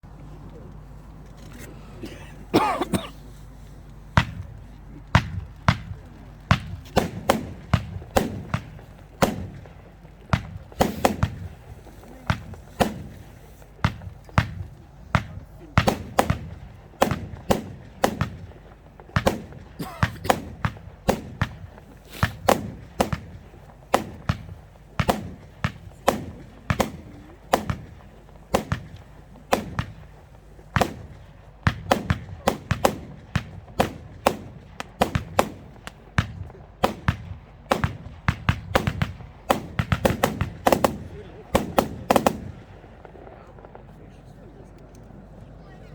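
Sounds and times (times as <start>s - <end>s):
firework battery bangs: 0.8s - 43.8s.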